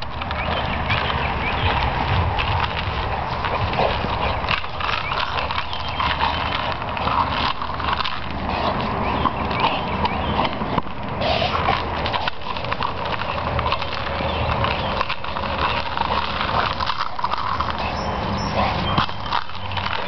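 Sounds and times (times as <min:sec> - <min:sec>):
dog breathing and snuffling: 0:00.0 - 0:20.0
dry leaves crackling: 0:00.0 - 0:20.0.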